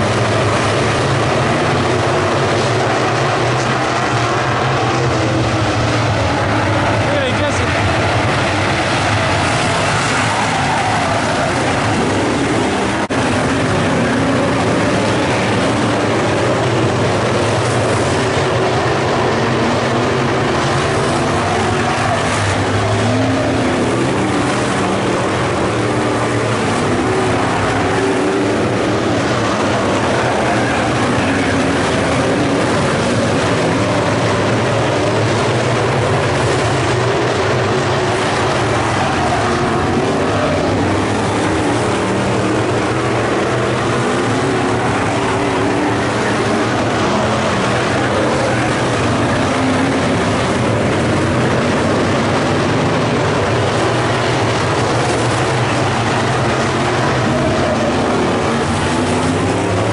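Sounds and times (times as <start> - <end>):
race car engines running hard: 0.0 - 59.9.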